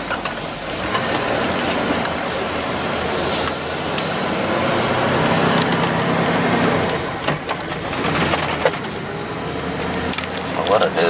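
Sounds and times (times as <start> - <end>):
truck engine running: 0.0 - 11.0
steady rush of noise: 0.3 - 11.0.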